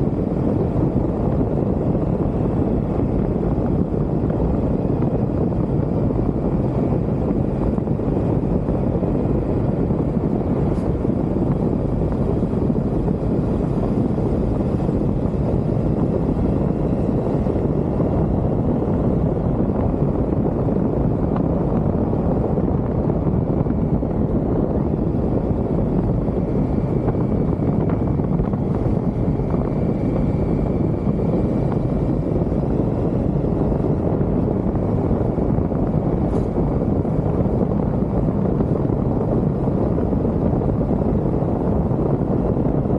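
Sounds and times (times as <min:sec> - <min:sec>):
motorcycle engine: 0:00.0 - 0:42.9
wind rush on microphone: 0:00.0 - 0:42.9.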